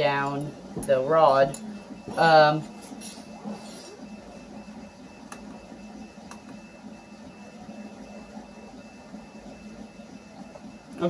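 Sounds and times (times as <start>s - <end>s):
printer mechanical hum: 0.0s - 11.0s
pulsing high tone: 0.0s - 11.0s.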